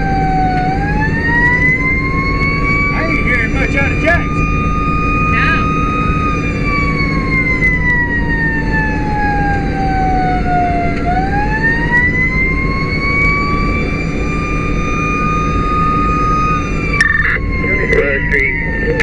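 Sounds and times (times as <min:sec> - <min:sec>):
siren wailing: 0:00.0 - 0:19.0
truck engine and tyres rumbling: 0:00.0 - 0:19.0.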